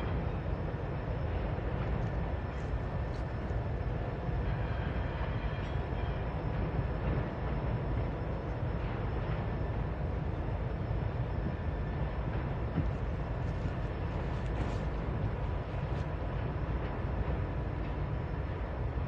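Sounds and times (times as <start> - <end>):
freight train rumbling over bridge: 0.0 - 19.0.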